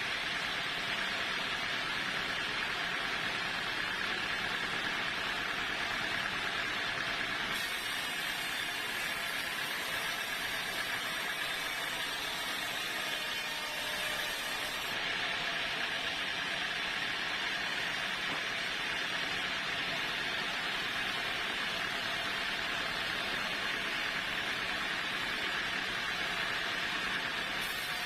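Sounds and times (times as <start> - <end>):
sawmill saw humming: 0.0 - 28.0.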